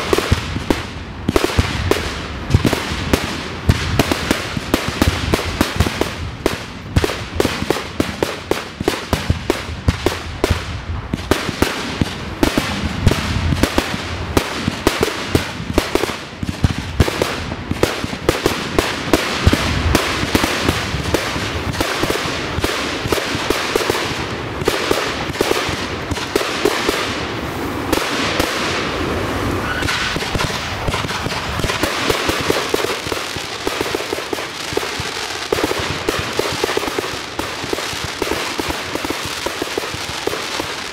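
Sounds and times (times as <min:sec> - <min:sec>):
fireworks bangs: 0:00.0 - 0:40.9
hissing crackle of fireworks: 0:00.0 - 0:40.9.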